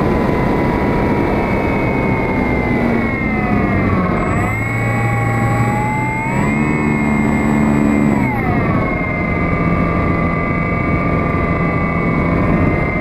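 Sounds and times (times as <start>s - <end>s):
electric motor and propeller whining: 0.0s - 13.0s.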